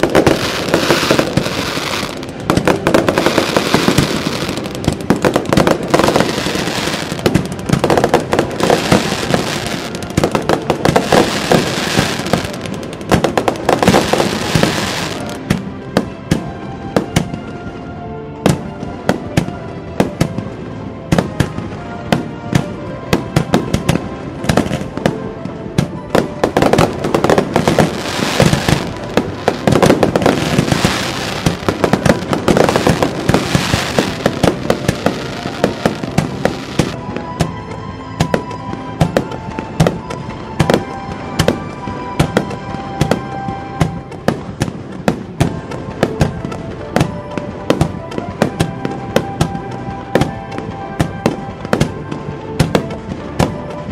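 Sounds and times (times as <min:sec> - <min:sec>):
fireworks bursting: 0:00.0 - 0:17.4, 0:21.1 - 0:37.6, 0:38.2 - 0:53.9
fireworks crackling: 0:00.0 - 0:17.5, 0:18.4 - 0:53.9
music playing: 0:00.0 - 0:53.9.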